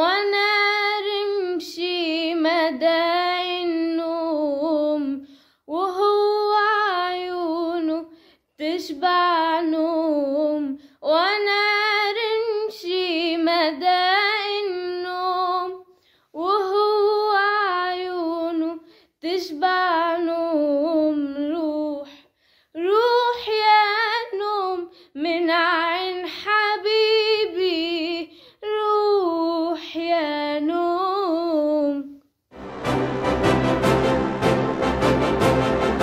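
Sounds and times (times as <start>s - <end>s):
woman singing unaccompanied: 0.0s - 15.8s, 16.4s - 22.1s, 22.8s - 32.2s.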